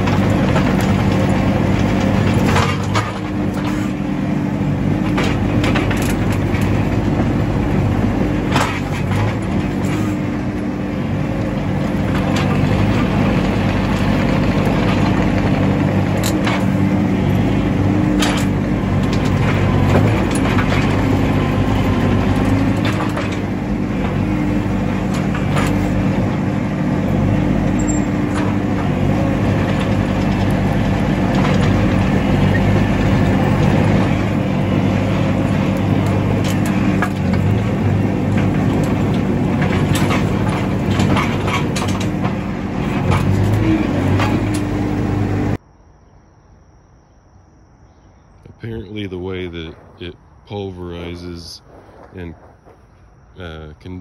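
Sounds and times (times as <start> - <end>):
rake knocking and clacking: 0.0 - 45.0
skid steer engine running: 0.0 - 45.6, 48.4 - 54.0.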